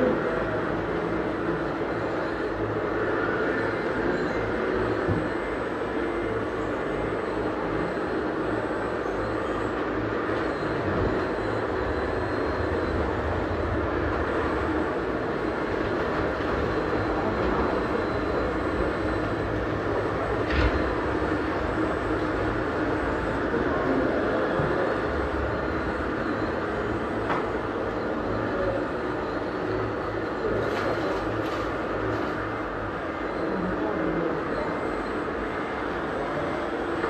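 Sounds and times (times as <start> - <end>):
mechanical running noise: 0.0 - 37.0.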